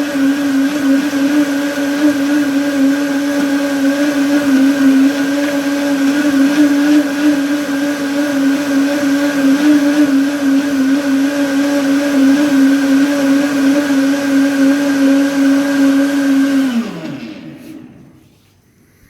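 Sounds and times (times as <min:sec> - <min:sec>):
blender motor running: 0:00.0 - 0:18.4.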